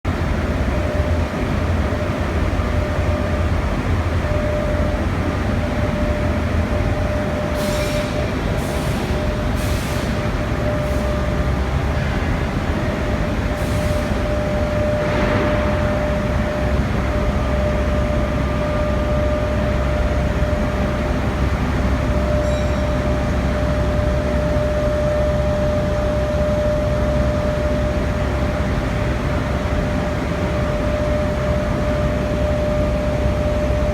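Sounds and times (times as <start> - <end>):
industrial plant rumble and hum: 0.1 - 33.9.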